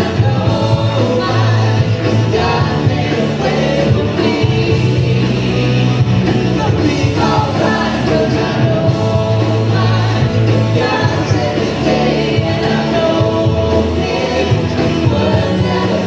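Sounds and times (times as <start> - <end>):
people singing: 0.0 - 16.0
steady bass line: 0.0 - 16.0
worship band playing: 0.0 - 16.0.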